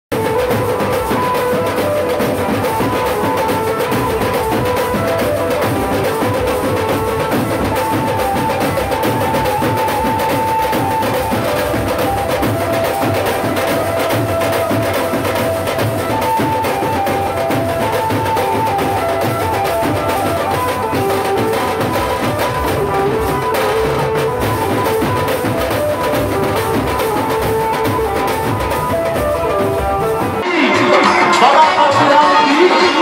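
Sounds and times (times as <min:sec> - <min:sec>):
drum band playing: 0:00.1 - 0:33.0
held melody line: 0:00.1 - 0:33.0.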